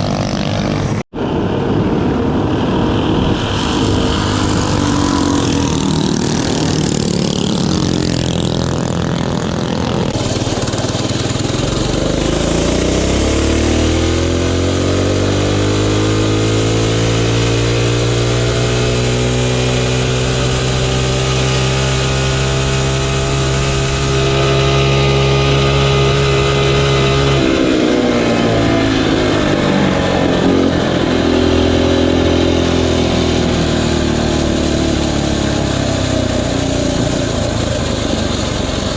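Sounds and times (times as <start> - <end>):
mini bike engine revving: 0.0 - 38.9.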